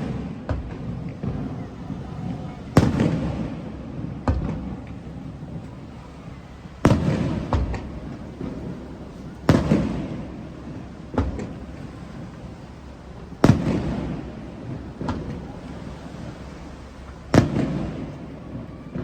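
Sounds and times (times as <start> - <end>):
firework shells booming: 0.0 - 19.0.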